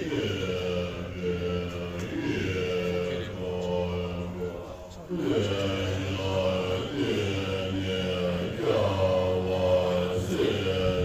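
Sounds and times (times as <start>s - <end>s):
monks chanting in low voices: 0.0s - 11.0s.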